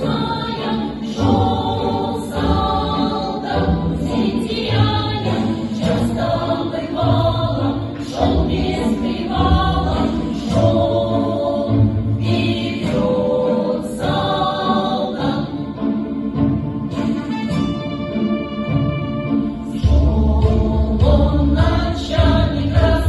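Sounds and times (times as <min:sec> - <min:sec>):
choir singing folk song: 0:00.0 - 0:17.7, 0:19.4 - 0:23.0
musical backing: 0:00.0 - 0:23.0.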